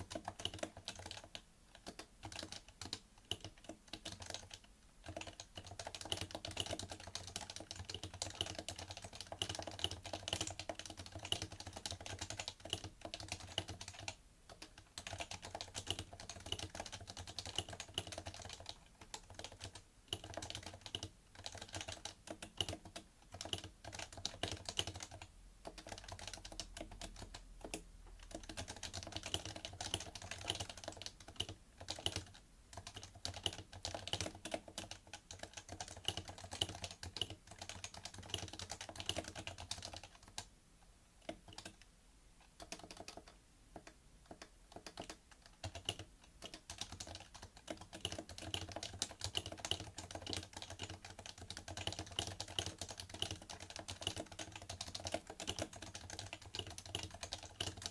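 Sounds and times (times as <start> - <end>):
fast keyboard typing: 0.0 - 40.5, 41.2 - 57.9.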